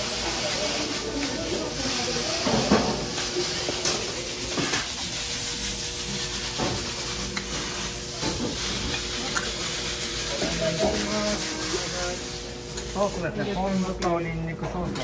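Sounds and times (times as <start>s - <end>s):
griddle sizzling: 0.0s - 14.0s.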